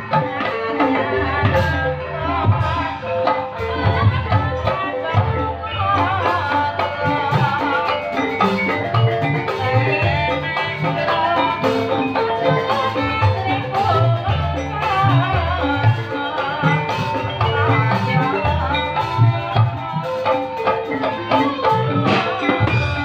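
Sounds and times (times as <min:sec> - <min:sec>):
mallet percussion melody: 0:00.0 - 0:23.0
steady drum beats: 0:00.0 - 0:23.0
wavering melody line: 0:00.0 - 0:23.0.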